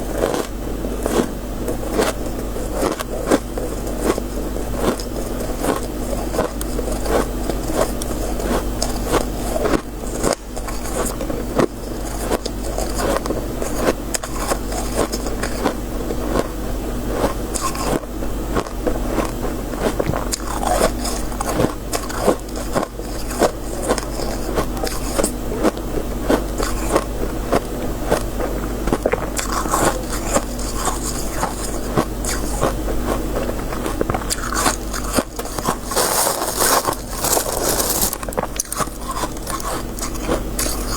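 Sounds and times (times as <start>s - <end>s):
chewing crunchy ice: 0.0s - 40.9s
steady low hum: 0.0s - 40.9s.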